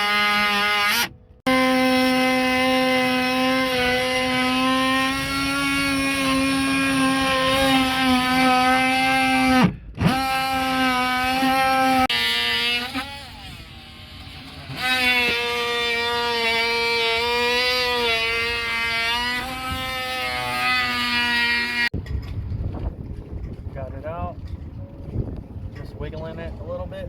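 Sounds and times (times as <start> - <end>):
power drill whining: 0.0 - 22.0.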